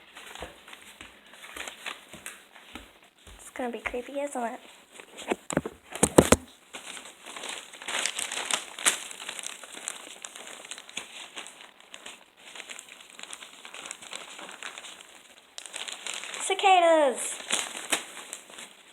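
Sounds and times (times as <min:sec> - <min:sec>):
paper crinkling: 0:00.1 - 0:02.8, 0:04.9 - 0:18.9.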